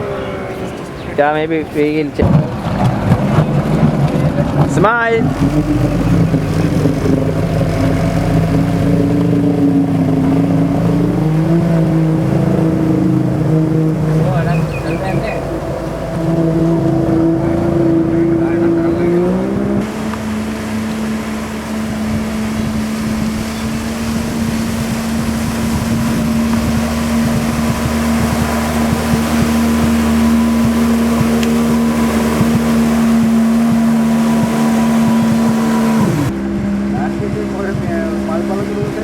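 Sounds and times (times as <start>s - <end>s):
jet ski engine running: 0.0s - 39.0s
wind and water rushing: 0.0s - 39.0s.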